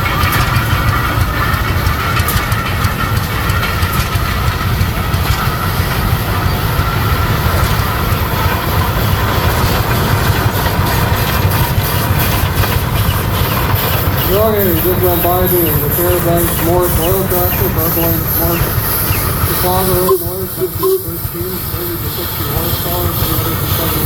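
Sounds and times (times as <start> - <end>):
tractor engine rumbling: 0.0 - 24.0.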